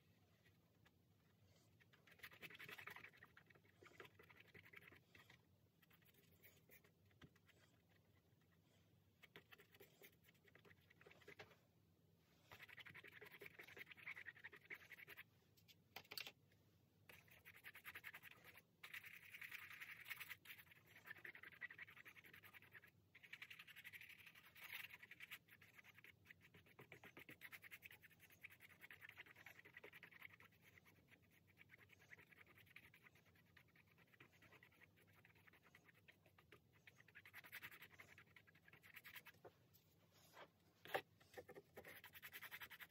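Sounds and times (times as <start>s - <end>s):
paintbrush rubbing wet paint: 0.0s - 11.6s, 12.3s - 15.3s, 17.1s - 42.9s.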